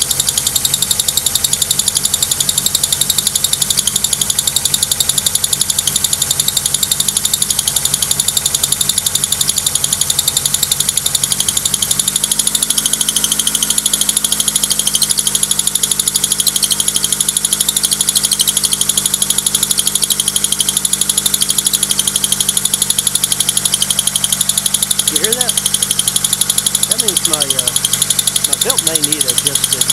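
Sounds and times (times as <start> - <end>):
car engine running: 0.0 - 29.9
drive belt squealing: 0.0 - 29.9.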